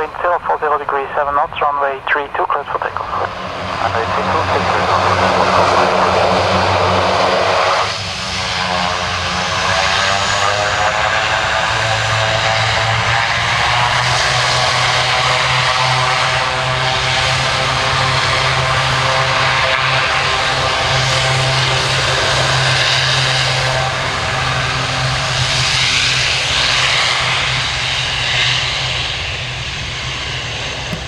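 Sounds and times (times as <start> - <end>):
turboprop engines at takeoff power: 0.0 - 31.0.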